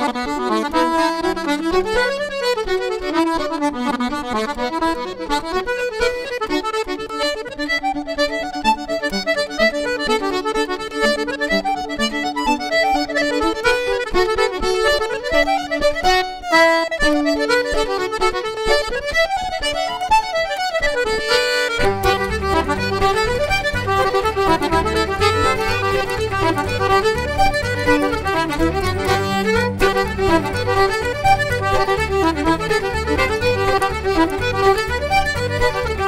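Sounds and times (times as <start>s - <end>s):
accordion: 0.0s - 36.0s
fiddles playing dance tune: 0.0s - 36.0s
low rhythmic backing: 0.0s - 36.0s.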